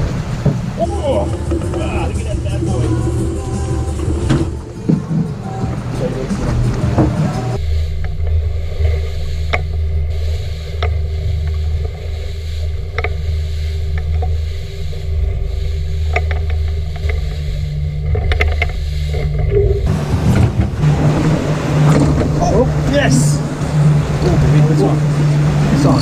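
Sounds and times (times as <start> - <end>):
boat motor droning: 0.0 - 26.0.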